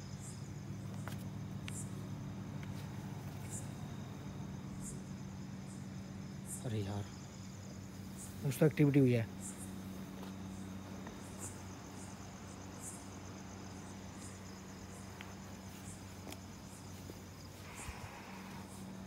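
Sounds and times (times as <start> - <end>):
crickets chirping: 0.0 - 19.0
low electrical hum: 0.0 - 19.0.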